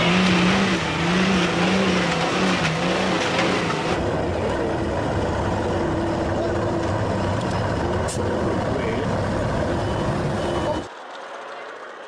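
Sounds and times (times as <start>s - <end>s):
truck engine revving in pulses: 0.0s - 10.9s
low steady truck engine drone: 0.0s - 12.0s.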